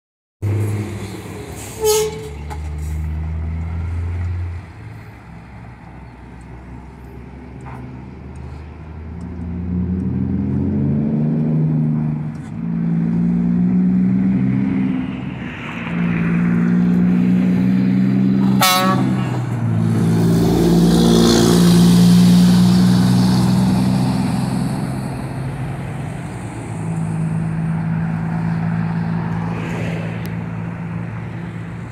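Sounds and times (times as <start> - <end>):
truck accelerating through gears: 0.4 - 31.9.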